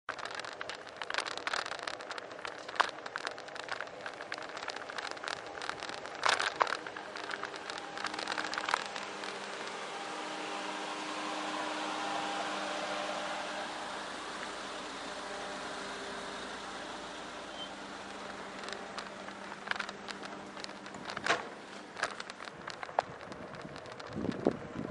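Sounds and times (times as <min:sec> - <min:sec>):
bicycle rattling and clicking: 0:00.1 - 0:24.9
truck engine idling: 0:00.3 - 0:24.9.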